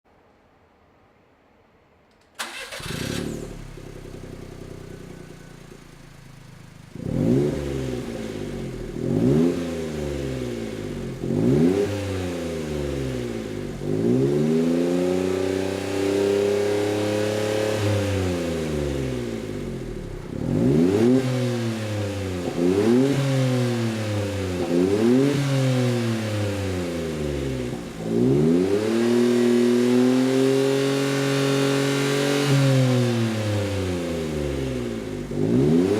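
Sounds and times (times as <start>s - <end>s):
small engine idling and revving: 2.4s - 35.9s.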